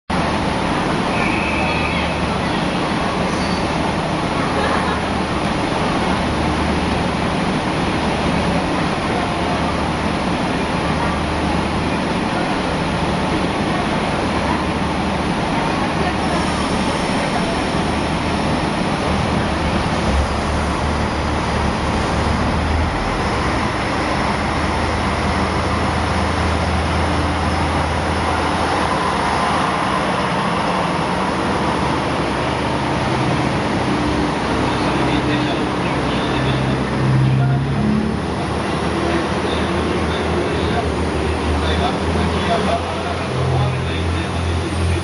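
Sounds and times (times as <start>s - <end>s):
diesel train engines running: 0.1s - 45.0s
train cars rolling past: 0.1s - 45.0s.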